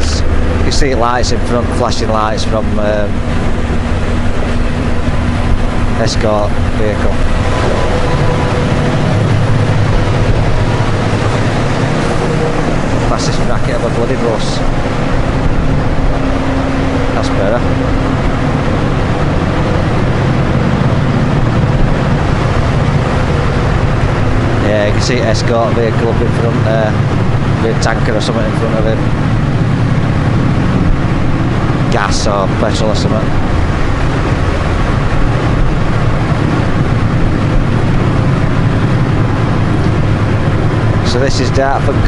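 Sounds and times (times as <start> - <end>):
motorcycle engine drone: 0.0 - 42.0
wind and road noise: 0.0 - 42.0.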